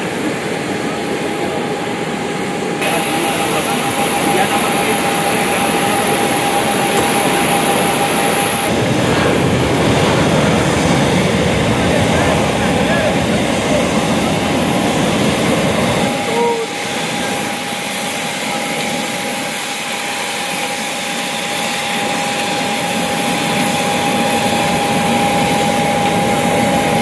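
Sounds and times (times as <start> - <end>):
high jet whine: 0.0 - 27.0
jet engine rushing hiss: 0.0 - 27.0.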